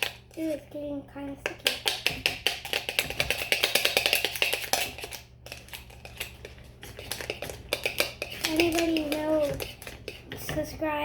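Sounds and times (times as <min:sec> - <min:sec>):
slime stirred with a utensil: 0:00.0 - 0:11.0.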